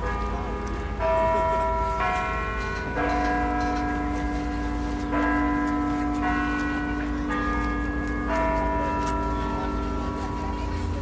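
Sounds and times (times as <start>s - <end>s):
carillon bells playing slow tune: 0.3s - 10.9s.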